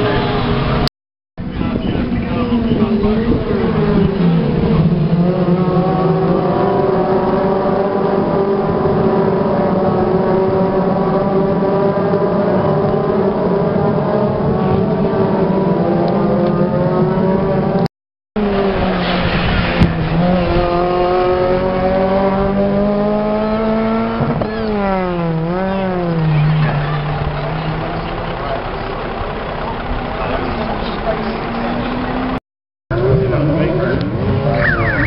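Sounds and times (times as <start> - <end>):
race car engines passing: 0.0 - 35.0.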